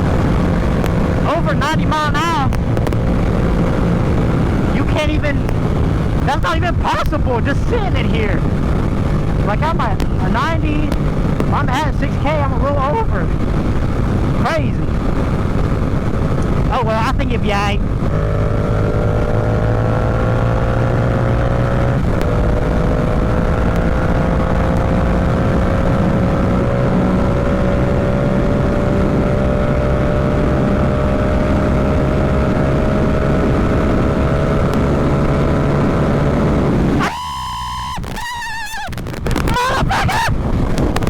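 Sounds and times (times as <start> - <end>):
motorcycle engine at highway speed: 0.0 - 41.0
wind and road noise: 0.0 - 41.0.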